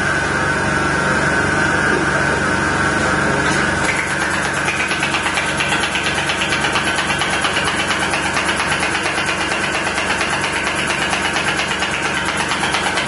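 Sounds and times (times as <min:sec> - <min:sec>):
rapid mechanical buzz: 0:00.0 - 0:13.0.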